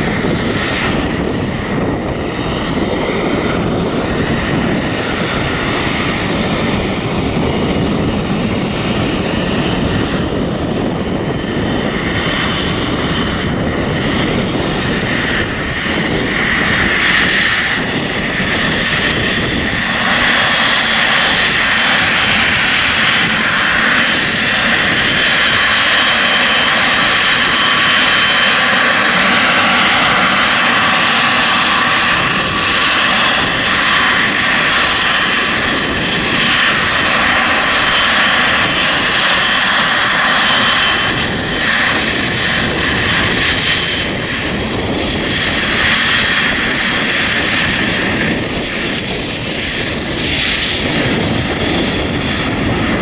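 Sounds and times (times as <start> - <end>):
jet engine whine: 0.0 - 53.0
jet engines rushing: 0.0 - 53.0.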